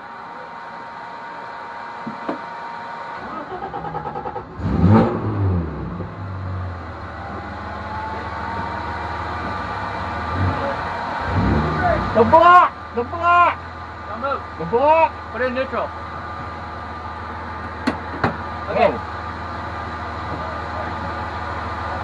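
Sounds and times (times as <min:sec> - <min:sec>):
car engine starting and idling: 0:00.0 - 0:22.0.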